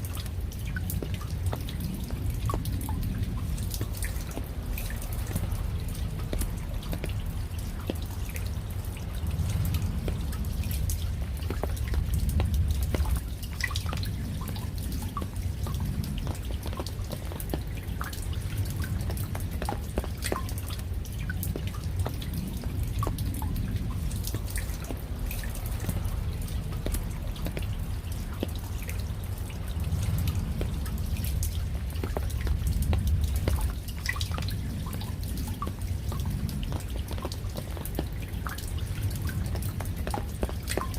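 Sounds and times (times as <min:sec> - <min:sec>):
raindrops ticking and dripping: 0:00.0 - 0:40.9
steady low rumble: 0:00.0 - 0:40.9.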